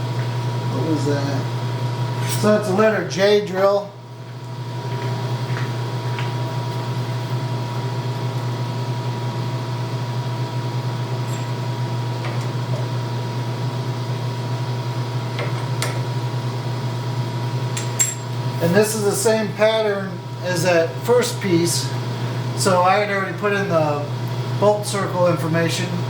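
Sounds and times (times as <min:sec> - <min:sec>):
milling machine motor humming: 0:00.0 - 0:26.0.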